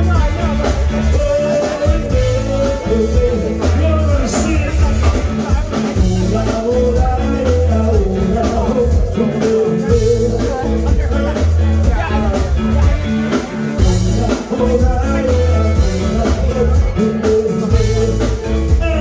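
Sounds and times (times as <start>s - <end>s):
bass and drum beat: 0.0s - 19.0s
person singing melody: 0.0s - 19.0s
upbeat pop song: 0.0s - 19.0s.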